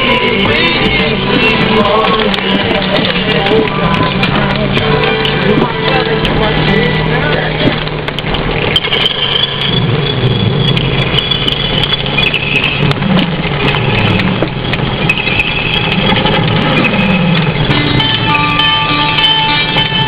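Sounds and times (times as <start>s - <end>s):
car engines passing slowly: 0.0s - 20.0s.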